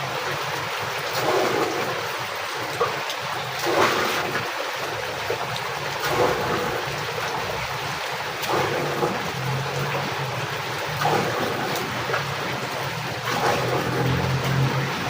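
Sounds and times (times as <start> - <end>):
heavy rain falling: 0.0 - 15.0
rain spatters: 0.0 - 15.0.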